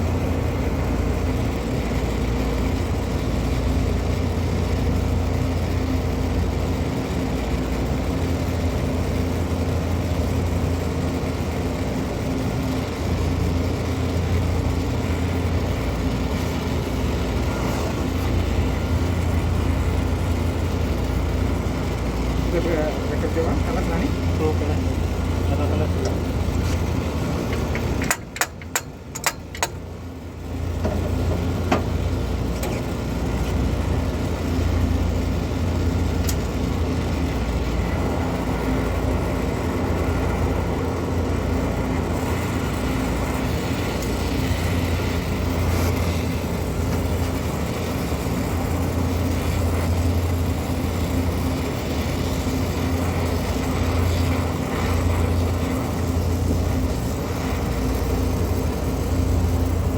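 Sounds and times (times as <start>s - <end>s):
machinery drone with hum: 0.0s - 59.9s.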